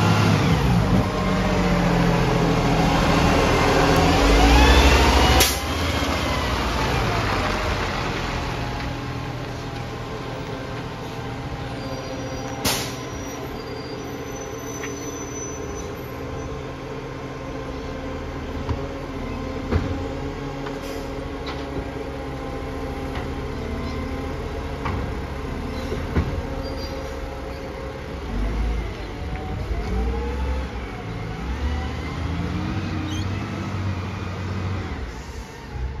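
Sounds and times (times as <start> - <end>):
garbage truck diesel engine: 0.0 - 36.0.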